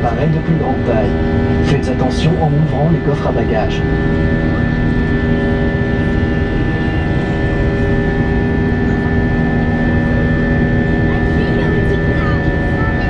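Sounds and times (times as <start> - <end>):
jet engine and airflow drone: 0.0 - 13.0
steady whining tones: 0.0 - 13.0.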